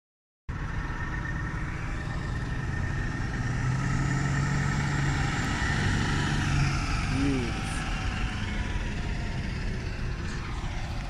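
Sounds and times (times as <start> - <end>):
diesel engine running: 0.5 - 11.0.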